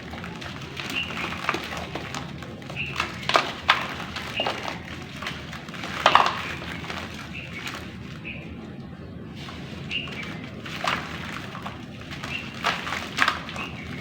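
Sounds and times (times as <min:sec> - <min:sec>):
clay crackling in water: 0:00.0 - 0:14.0.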